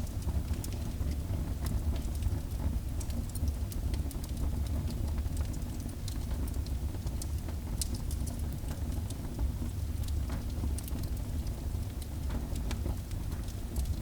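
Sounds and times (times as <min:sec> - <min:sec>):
low fire rumble: 0:00.0 - 0:14.0
fire crackling and popping: 0:00.1 - 0:14.0.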